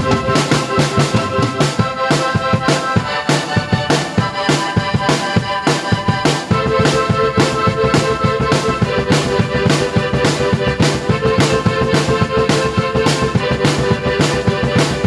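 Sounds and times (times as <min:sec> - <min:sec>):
drum kit beat: 0:00.0 - 0:15.0
held keyboard notes: 0:00.0 - 0:15.0.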